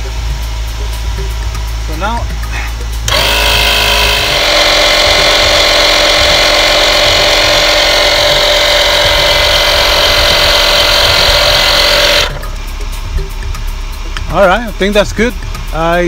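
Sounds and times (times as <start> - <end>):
portable air compressor running: 0.0 - 16.0.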